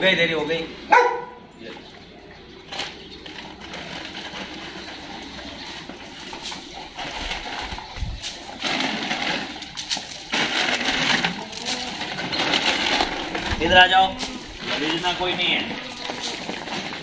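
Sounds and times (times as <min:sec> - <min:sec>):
plastic bag crinkling: 0:02.7 - 0:17.0.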